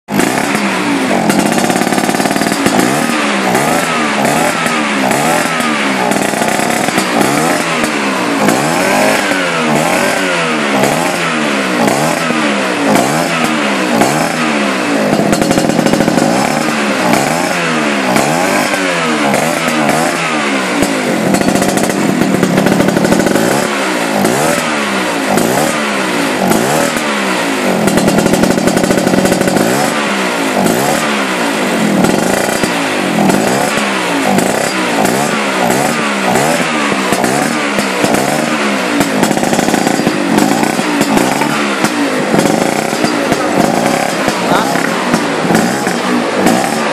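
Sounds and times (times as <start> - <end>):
scooter engine revving: 0.0 - 46.9.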